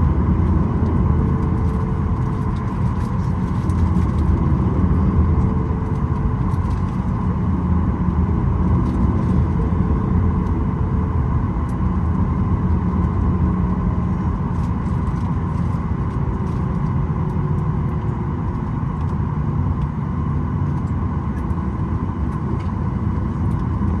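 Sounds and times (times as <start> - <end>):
jet engines idling in cabin: 0.0 - 24.0.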